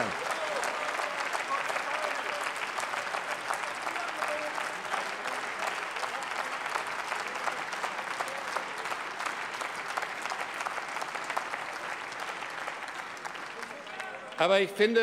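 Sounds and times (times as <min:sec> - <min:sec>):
crowd applause: 0:00.0 - 0:15.0.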